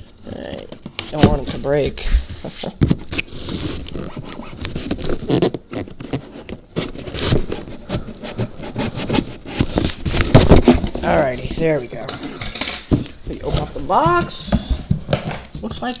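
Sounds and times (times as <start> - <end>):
packing tape and cardboard scraping: 0.0 - 16.0.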